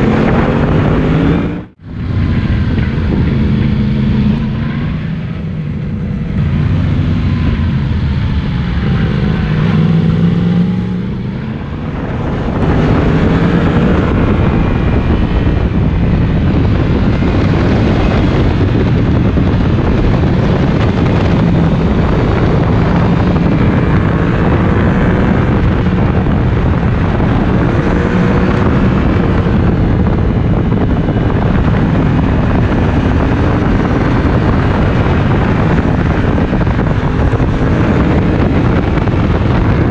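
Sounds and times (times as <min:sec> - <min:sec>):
motorcycle engine: 0:00.0 - 0:39.9
wind on microphone: 0:00.0 - 0:39.9.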